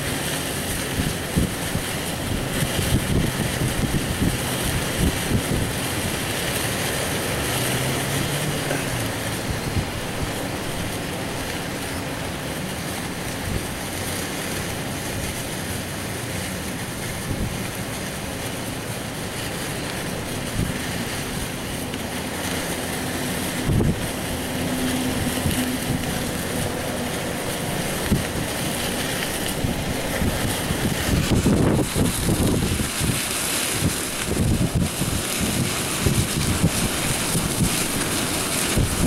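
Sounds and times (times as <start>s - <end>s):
gusting wind buffeting microphone: 0.0s - 39.0s.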